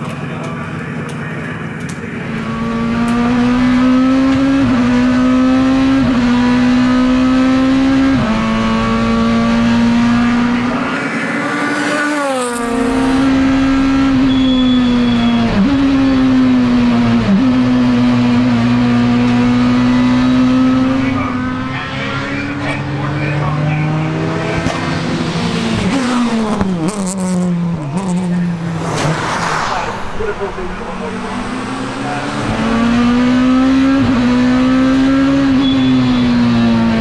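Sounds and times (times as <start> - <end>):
race car engine at high revs: 0.0 - 37.0.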